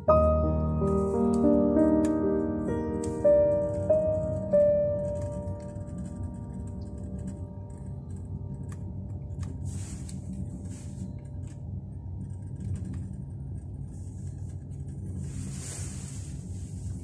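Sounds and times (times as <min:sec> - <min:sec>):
gondola cabin rumble: 0:00.0 - 0:17.0.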